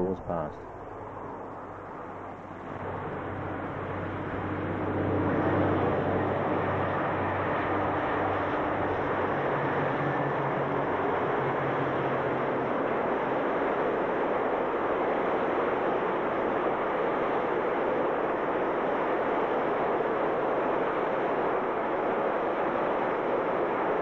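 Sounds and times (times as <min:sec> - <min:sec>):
diesel engine drone: 0:00.0 - 0:24.0
train rumble: 0:00.0 - 0:24.0.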